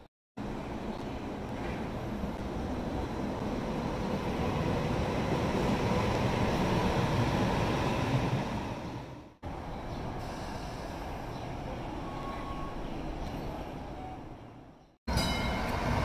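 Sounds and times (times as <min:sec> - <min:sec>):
light rail train rumbling: 0:00.4 - 0:16.0.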